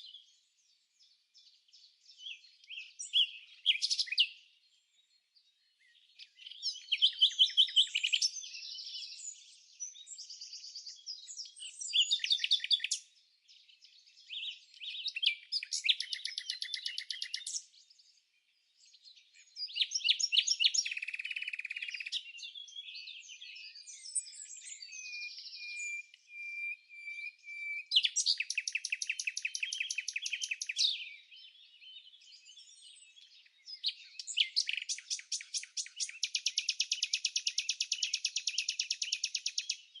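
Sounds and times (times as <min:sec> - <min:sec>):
songbirds trilling: 0:00.0 - 0:40.0.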